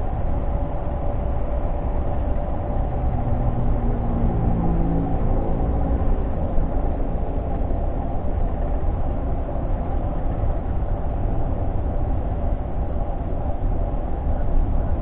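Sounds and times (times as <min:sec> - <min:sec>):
truck diesel engine rumble: 0:01.6 - 0:15.0.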